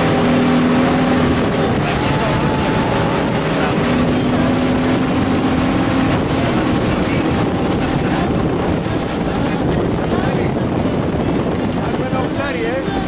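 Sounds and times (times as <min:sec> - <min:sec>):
outboard motor running: 0:00.0 - 0:13.0
rushing water and wind: 0:00.0 - 0:13.0.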